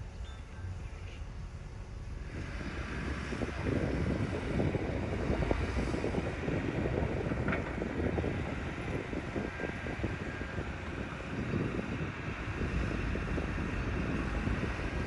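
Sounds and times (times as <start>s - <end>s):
heavy diesel machinery rumbling: 0.0s - 15.0s
wind noise on microphone: 0.0s - 15.0s.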